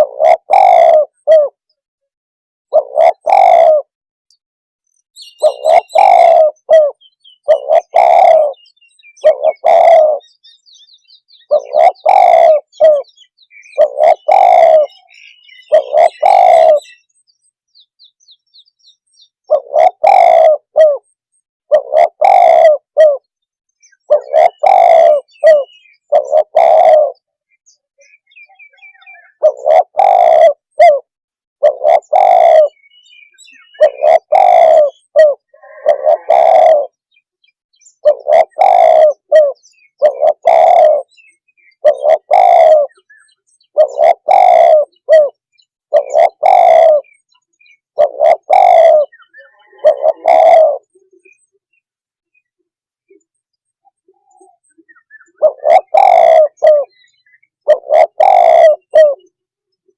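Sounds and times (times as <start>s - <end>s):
dove cooing: 0.0s - 1.7s, 2.7s - 4.0s, 5.2s - 17.1s, 19.4s - 37.1s, 37.8s - 51.7s, 53.0s - 59.4s
faint high bird chirps: 4.8s - 59.9s.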